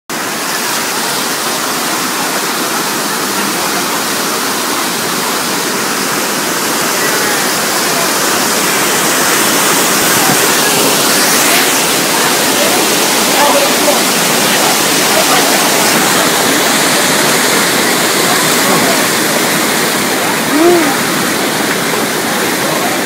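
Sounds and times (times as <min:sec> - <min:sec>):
rushing floodwater: 0:00.1 - 0:23.0.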